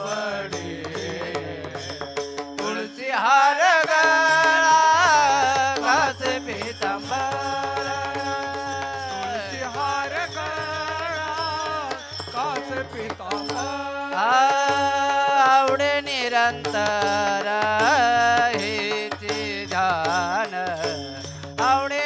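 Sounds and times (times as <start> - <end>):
hand cymbals struck: 0.0 - 3.0, 3.8 - 22.0
men singing devotional song: 0.0 - 22.0.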